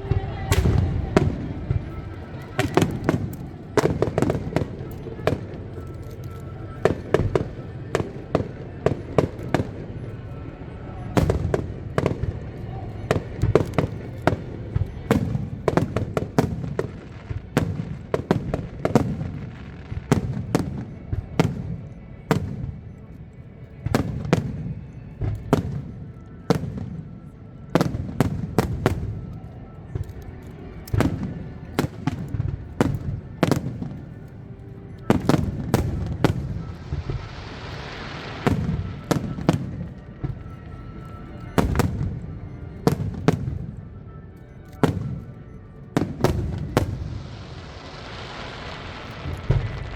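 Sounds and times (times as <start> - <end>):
fireworks booms and bangs: 0.0 - 44.1, 44.8 - 49.9.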